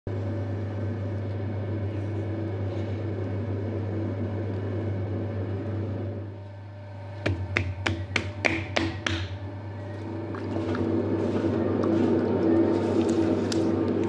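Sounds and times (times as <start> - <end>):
electric potter's wheel humming: 0.1 - 14.0.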